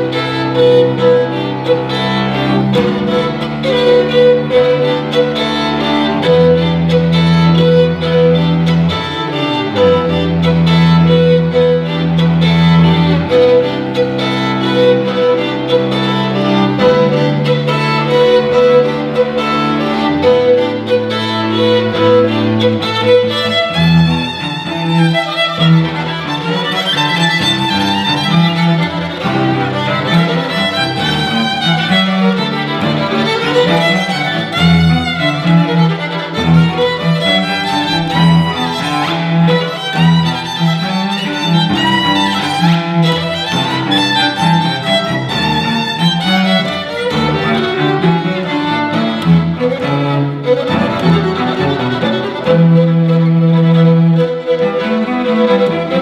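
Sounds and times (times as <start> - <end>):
cello: 0.0 - 56.0
violin melody: 0.0 - 56.0.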